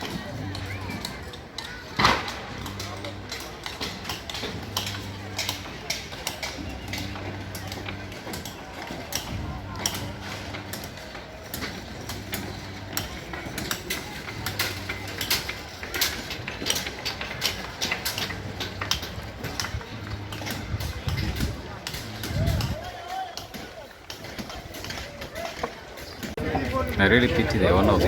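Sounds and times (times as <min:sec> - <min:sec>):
faint voices: 0:00.0 - 0:28.0.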